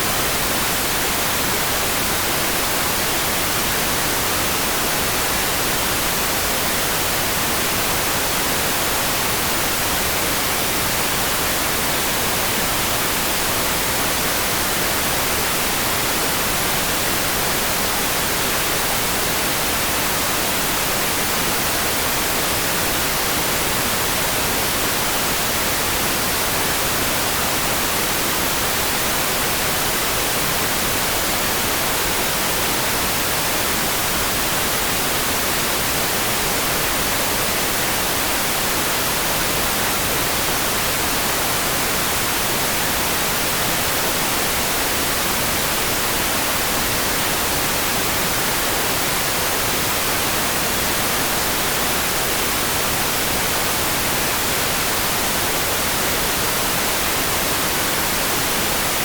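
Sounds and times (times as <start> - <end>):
steady rain-like hiss: 0.0 - 59.0.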